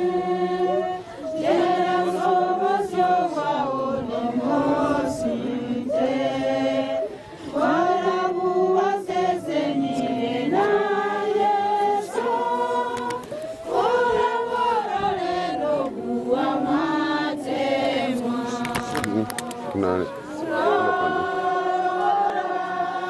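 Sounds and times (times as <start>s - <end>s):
group singing unaccompanied: 0.0s - 23.0s.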